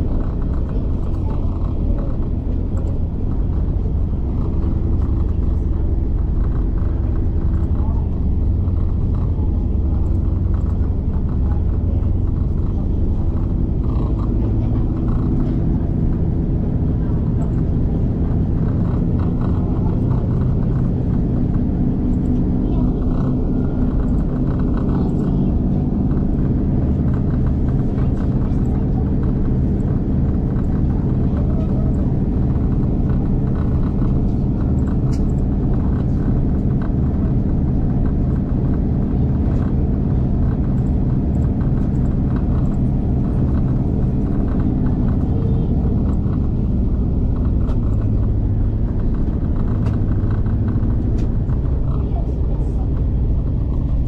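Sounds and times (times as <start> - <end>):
diesel engine drone: 0.0 - 54.0
train rumbling along track: 0.0 - 54.0.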